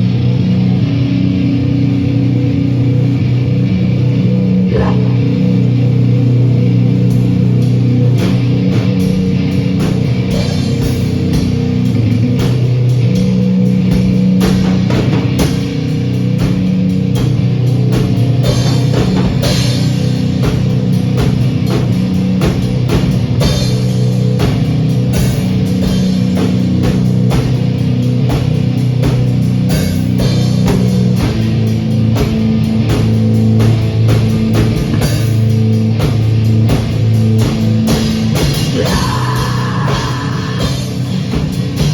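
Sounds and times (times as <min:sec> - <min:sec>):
bass guitar: 0:00.0 - 0:41.9
electric guitar: 0:00.0 - 0:41.9
drum kit beat: 0:04.7 - 0:41.9.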